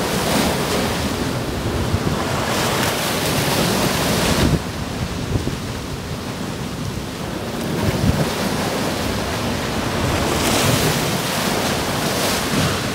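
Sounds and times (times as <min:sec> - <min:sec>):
sea waves washing onto shore: 0:00.0 - 0:12.9
wind rumbling on microphone: 0:00.0 - 0:12.9.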